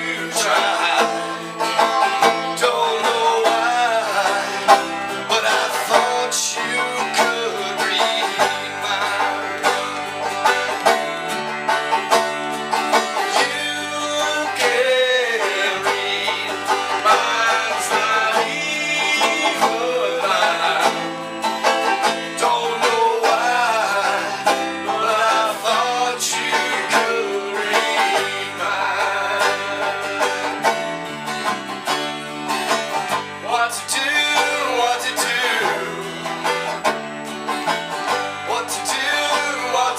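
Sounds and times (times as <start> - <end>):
bluegrass music with banjo: 0.0 - 39.9.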